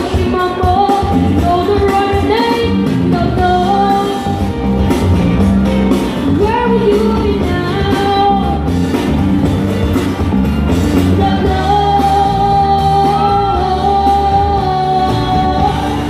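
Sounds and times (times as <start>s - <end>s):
instrumental backing: 0.0s - 16.0s.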